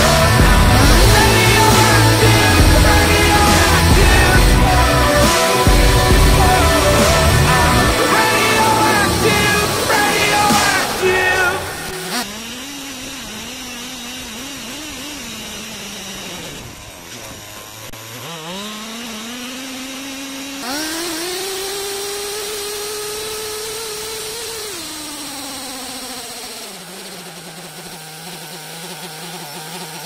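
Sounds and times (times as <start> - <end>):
small nitro engine revving: 0.0 - 30.0.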